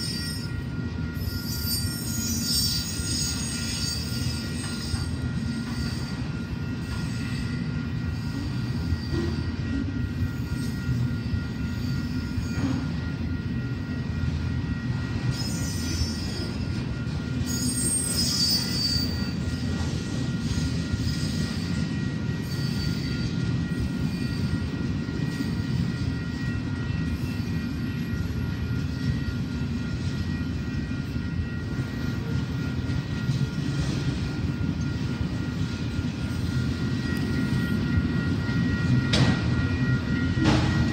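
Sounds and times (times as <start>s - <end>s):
high wheel squeal: 0.0s - 40.9s
train wheels rumbling on rail: 0.0s - 40.9s.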